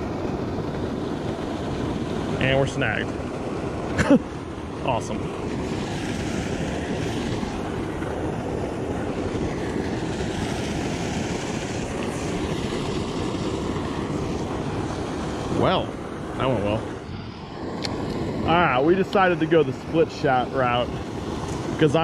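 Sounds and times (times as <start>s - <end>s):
water rushing from spillway: 0.0s - 22.0s.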